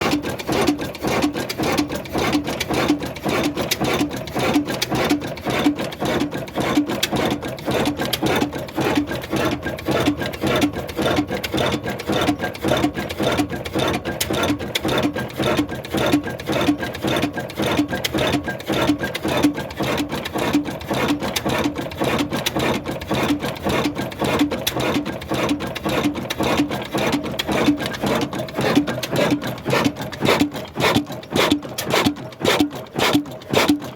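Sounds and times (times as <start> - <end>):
old diesel engine running: 0.0 - 33.9.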